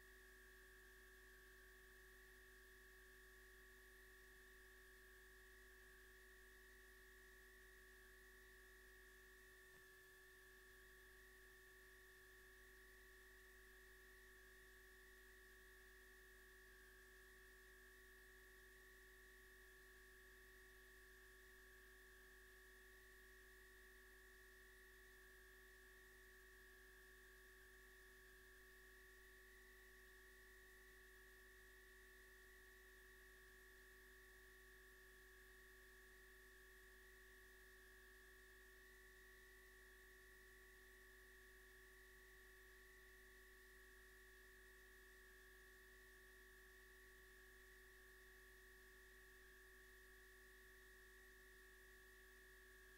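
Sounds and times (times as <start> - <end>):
faint electrical hum: 0.0 - 52.9.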